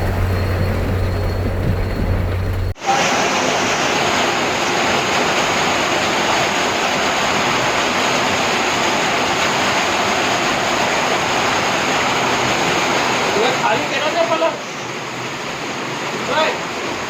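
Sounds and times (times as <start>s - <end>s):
heavy rain: 0.0s - 17.0s
rushing water: 0.0s - 17.0s.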